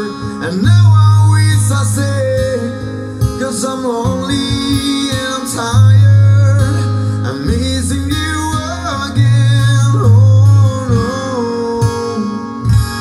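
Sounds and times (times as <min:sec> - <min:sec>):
song with singing and guitar: 0:00.0 - 0:13.0.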